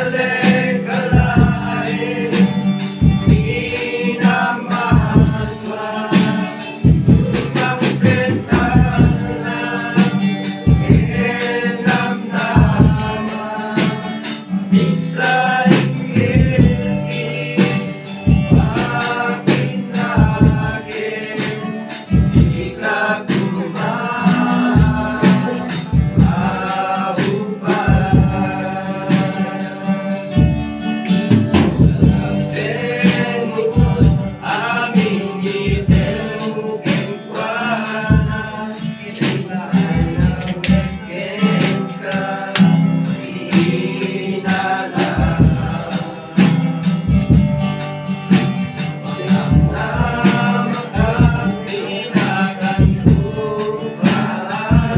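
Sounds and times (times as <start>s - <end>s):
acoustic guitar strumming: 0.0s - 54.9s
group singing: 0.0s - 54.9s.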